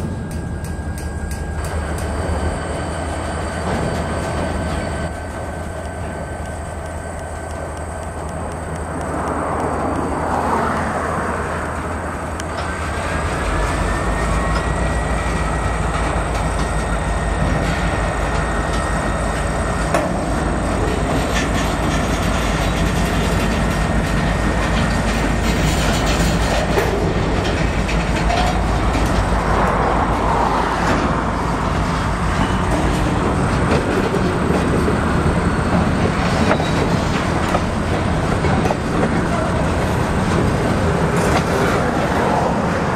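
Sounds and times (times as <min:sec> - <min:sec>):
steel wheels clicking over rail joints: 0:00.0 - 0:42.5
freight train rolling past: 0:00.0 - 0:42.9.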